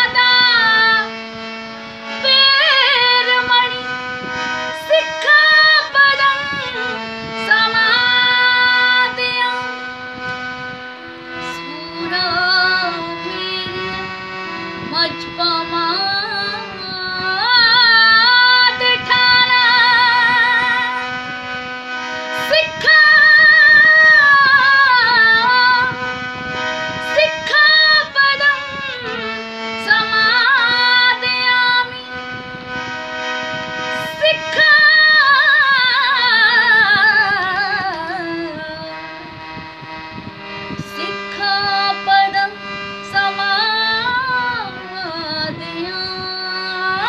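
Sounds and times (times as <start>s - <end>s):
backing music of held notes: 0.0s - 47.0s
woman singing with vibrato: 0.0s - 47.0s.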